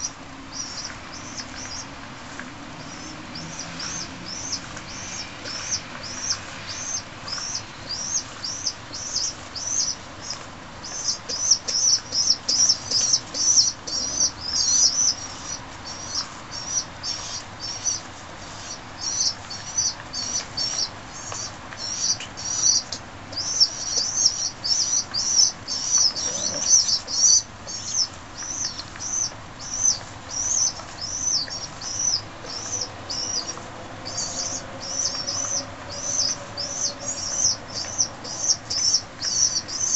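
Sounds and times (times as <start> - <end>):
pigeon squabs peeping: 0.0 - 39.9.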